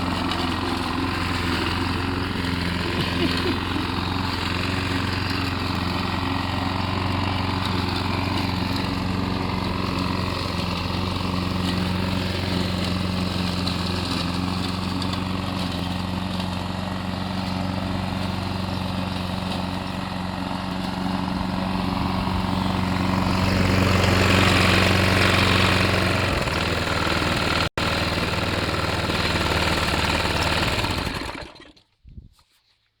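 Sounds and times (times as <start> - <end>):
lawn mower engine running: 0.0 - 31.8.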